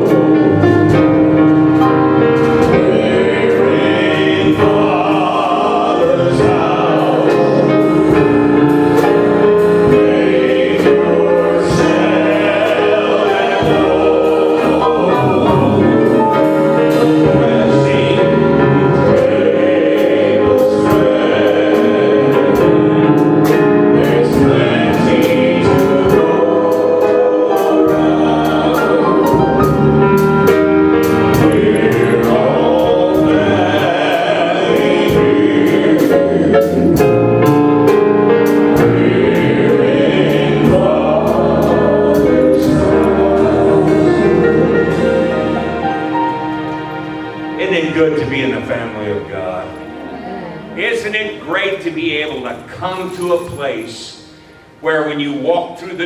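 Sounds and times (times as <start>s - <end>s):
group singing worship song: 0.0s - 54.7s
musical accompaniment: 0.0s - 56.0s.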